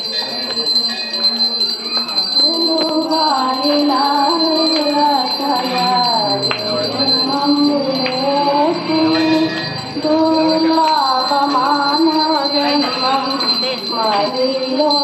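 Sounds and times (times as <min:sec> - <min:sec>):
hand bell ringing: 0:00.0 - 0:15.0.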